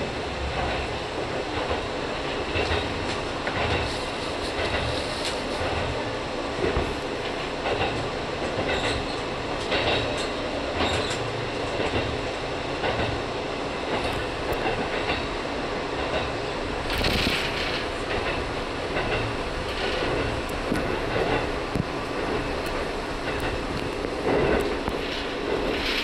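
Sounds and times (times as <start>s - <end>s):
railcar rumbling: 0.0s - 26.0s
wheels clacking over rail joints: 0.0s - 26.0s.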